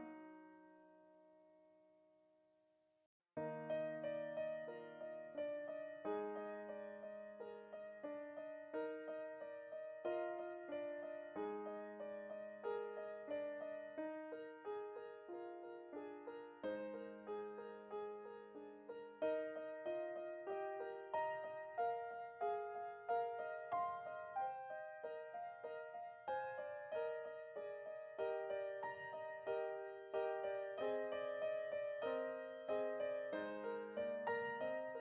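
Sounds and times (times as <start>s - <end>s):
gentle piano music: 0.0s - 2.2s, 3.4s - 35.0s.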